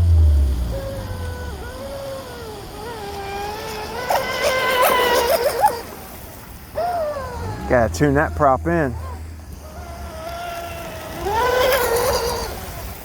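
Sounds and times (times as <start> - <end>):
low hum: 0.0 - 13.0
rc speedboat motor whine: 0.0 - 13.0.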